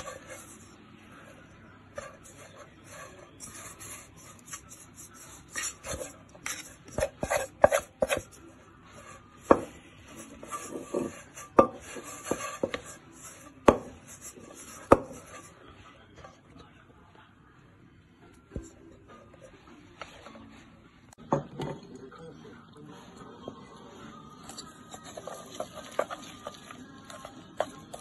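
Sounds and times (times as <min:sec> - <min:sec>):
chopsticks stirring wet dough: 0:00.0 - 0:16.6, 0:18.5 - 0:20.8, 0:22.9 - 0:28.0.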